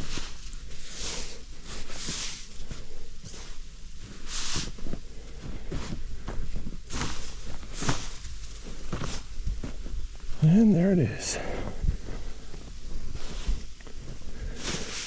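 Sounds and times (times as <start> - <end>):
snow brushed off tent: 0.0 - 15.0.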